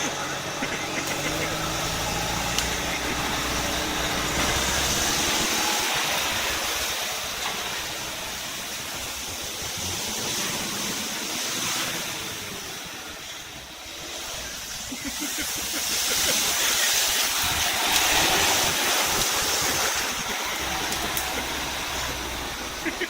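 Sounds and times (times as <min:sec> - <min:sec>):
loud rushing hiss: 0:00.0 - 0:23.0
vehicle engine running: 0:00.0 - 0:23.0.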